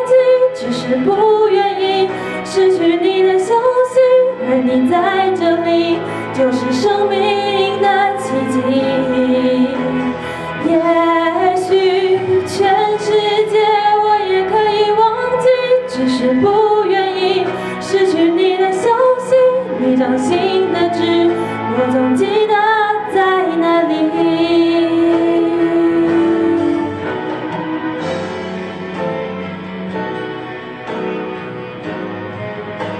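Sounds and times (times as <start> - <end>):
woman singing pop ballad: 0.0 - 28.0
karaoke backing track: 0.0 - 32.9.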